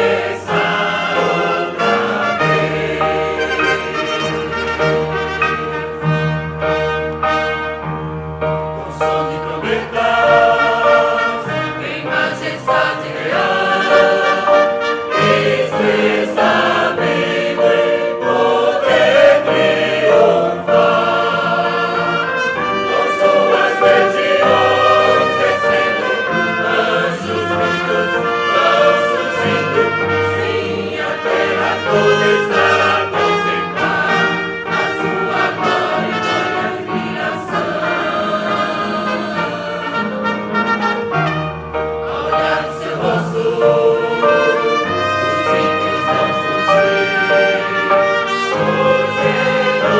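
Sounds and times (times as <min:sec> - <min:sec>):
youth choir singing: 0:00.0 - 0:06.4, 0:08.8 - 0:40.3, 0:42.0 - 0:49.9
trumpets playing: 0:00.0 - 0:08.1, 0:12.8 - 0:16.6, 0:18.9 - 0:41.9, 0:43.8 - 0:49.9.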